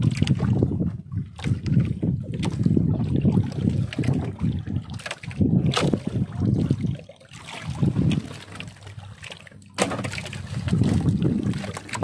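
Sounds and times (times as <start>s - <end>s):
wind rumbling on microphone: 0.0s - 9.2s, 10.0s - 12.0s
water lapping against boat hull: 0.0s - 12.0s.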